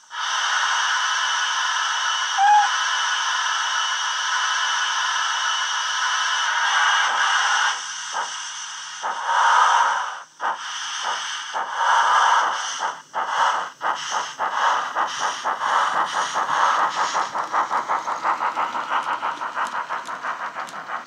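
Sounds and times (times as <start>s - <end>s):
steam locomotive chuffs with hiss: 0.0s - 21.0s.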